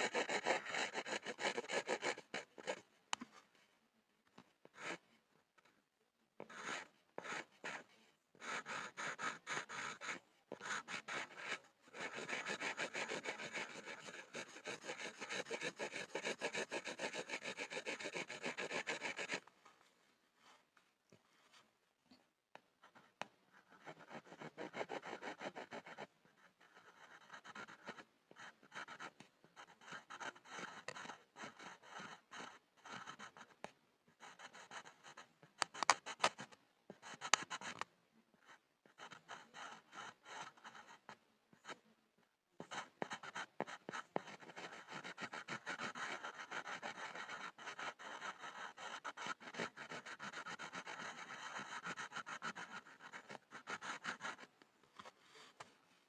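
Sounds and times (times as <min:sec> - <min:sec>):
pencil scribbling on wood: 0:00.0 - 0:02.9, 0:06.4 - 0:19.4, 0:22.9 - 0:33.6, 0:34.2 - 0:37.8, 0:38.9 - 0:41.8, 0:42.6 - 0:54.5.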